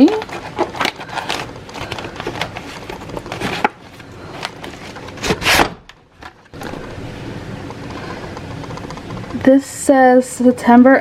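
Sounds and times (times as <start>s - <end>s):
packaging rustling: 0.0s - 9.4s.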